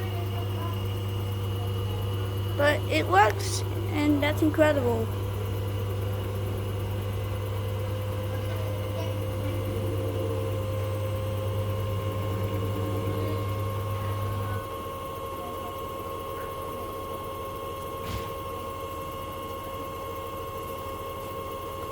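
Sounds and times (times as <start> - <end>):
appliance motor humming: 0.0 - 21.9.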